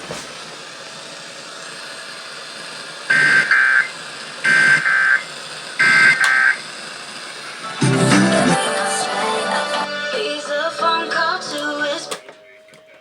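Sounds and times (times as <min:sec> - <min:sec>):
broadcast hiss: 0:00.0 - 0:13.0.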